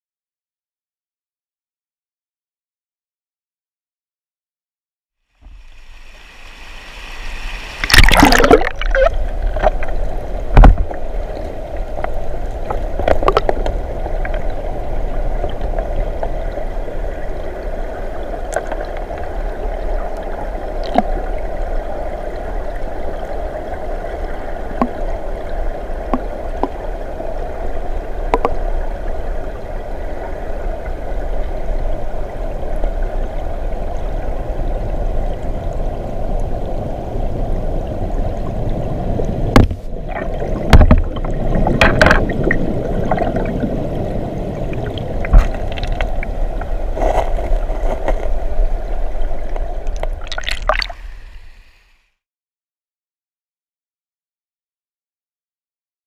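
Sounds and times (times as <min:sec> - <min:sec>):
stream gurgling over rocks: 0:05.4 - 0:51.5.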